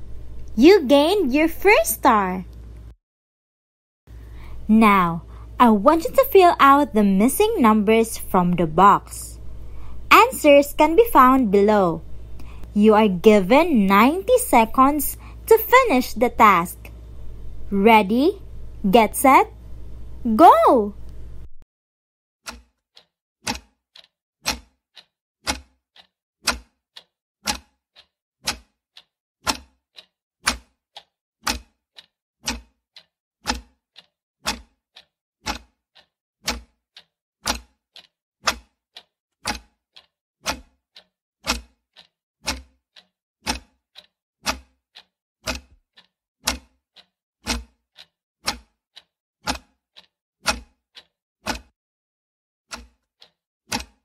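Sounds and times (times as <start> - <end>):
clock ticking: 0.4 - 2.5, 4.7 - 9.5, 10.1 - 19.6, 22.5 - 51.7, 52.7 - 54.0.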